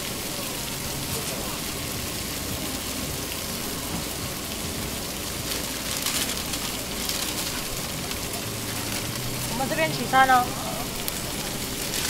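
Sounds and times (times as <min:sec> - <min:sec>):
chicken sizzling on a griddle: 0:00.0 - 0:12.0.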